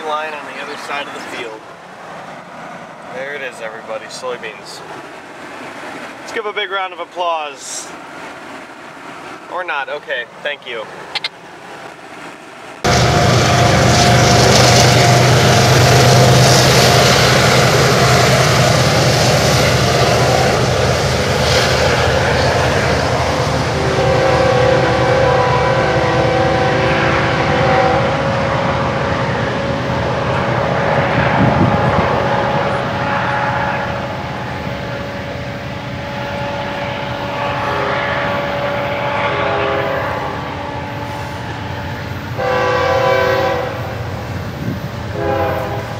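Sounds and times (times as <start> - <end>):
freight cars rumbling on bridge: 0.0 - 45.9.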